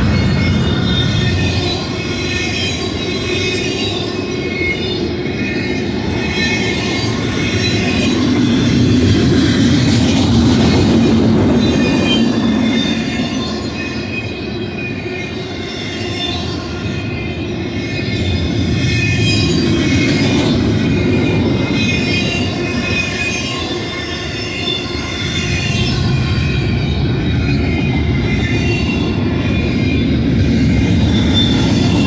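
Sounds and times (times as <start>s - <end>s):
freight train wheels rumbling on rail: 0.0s - 32.0s
high-pitched wheel squeal: 0.0s - 32.0s.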